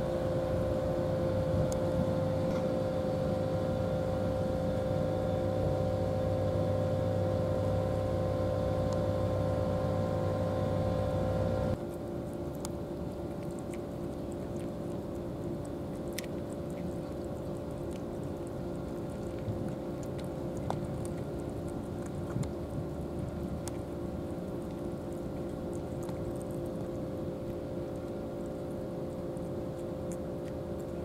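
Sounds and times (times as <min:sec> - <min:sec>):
steady engine drone: 0:00.0 - 0:31.0.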